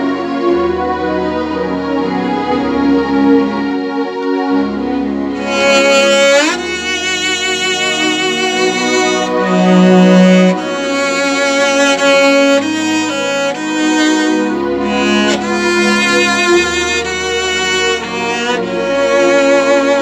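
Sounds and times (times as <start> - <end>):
slow bowed string music: 0.0 - 20.0.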